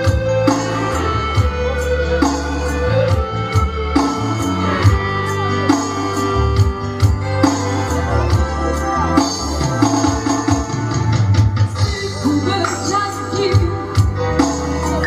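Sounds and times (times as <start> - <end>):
organ-like keyboard chords: 0.0 - 15.0
pulsing bass line: 0.0 - 15.0.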